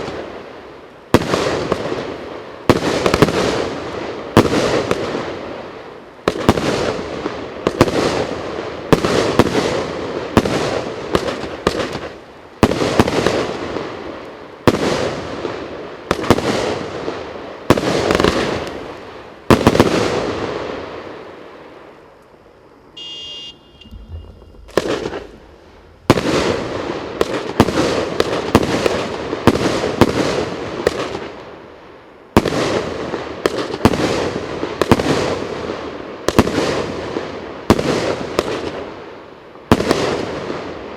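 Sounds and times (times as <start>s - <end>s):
firework bangs with crackle: 0.0s - 22.0s, 23.0s - 40.9s.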